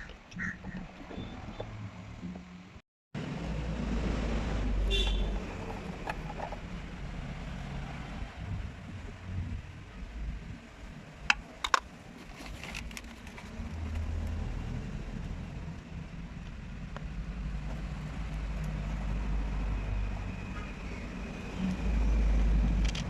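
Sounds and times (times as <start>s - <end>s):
low rumble of road vehicles: 0.0s - 23.0s.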